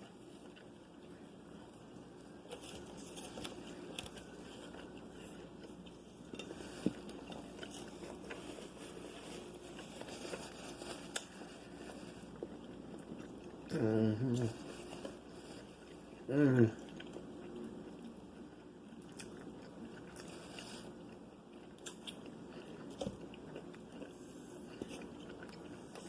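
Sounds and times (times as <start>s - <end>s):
chewing and biting food: 0.0s - 26.0s.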